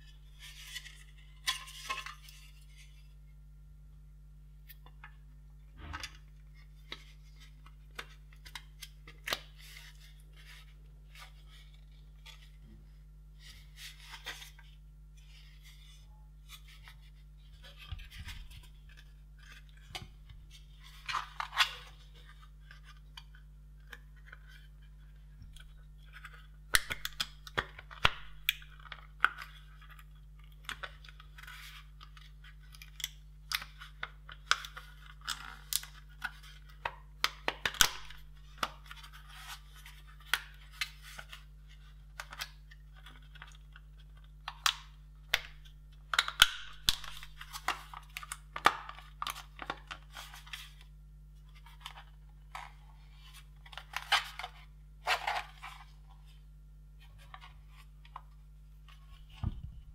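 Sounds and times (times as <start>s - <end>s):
faint mains hum: 0.0s - 59.9s.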